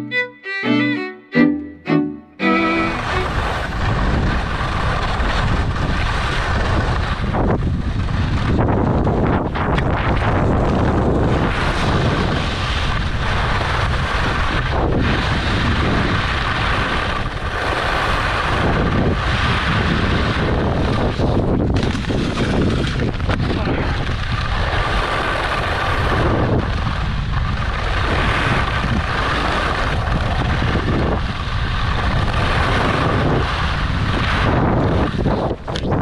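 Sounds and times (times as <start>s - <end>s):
skis scraping over snow: 2.4s - 36.0s
wind rushing over microphone: 2.6s - 36.0s.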